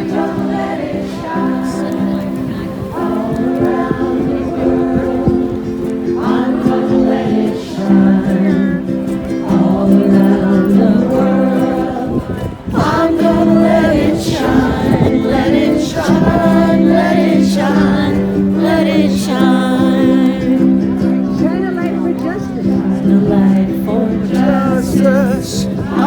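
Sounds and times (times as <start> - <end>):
group of voices singing: 0.0 - 26.0
long held chords: 0.0 - 26.0.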